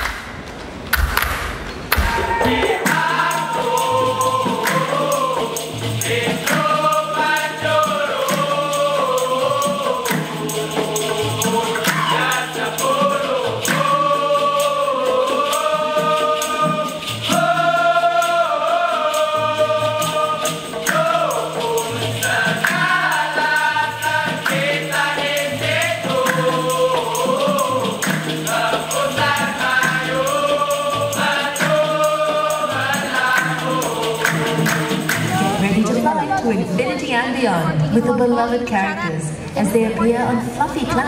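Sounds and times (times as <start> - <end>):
rhythmic hand claps: 0.0 - 35.7
drums and percussion: 0.0 - 38.2
chorus singing in unison: 1.8 - 38.0.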